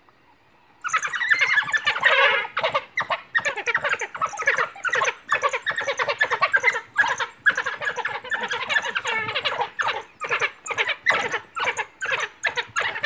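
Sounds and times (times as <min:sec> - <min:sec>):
wild dogs twittering: 0:00.8 - 0:13.0.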